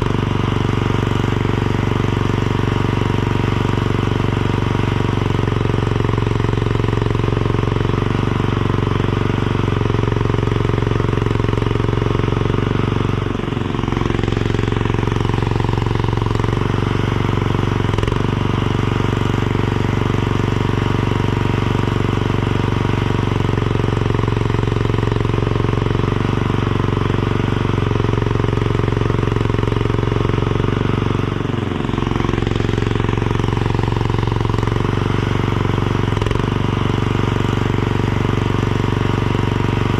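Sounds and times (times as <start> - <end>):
skid steer engine running at high revs: 0.0 - 39.9.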